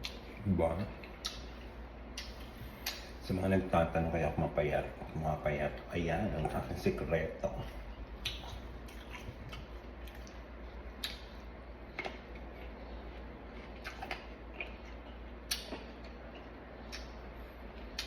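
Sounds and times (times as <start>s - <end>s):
crunching of eating fruit: 0.0s - 5.1s, 5.8s - 18.0s.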